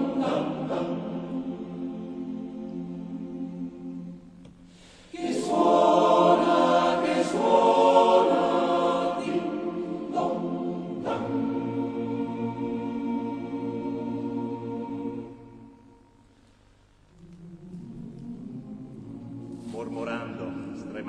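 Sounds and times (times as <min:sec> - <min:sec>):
choir singing held chords: 0:00.0 - 0:16.4, 0:17.1 - 0:21.0.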